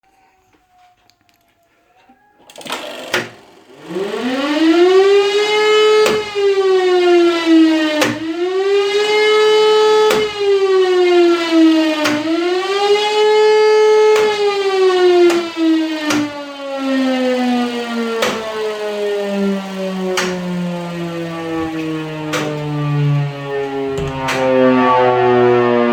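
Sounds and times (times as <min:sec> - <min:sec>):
rising and falling siren: 0:03.2 - 0:25.9.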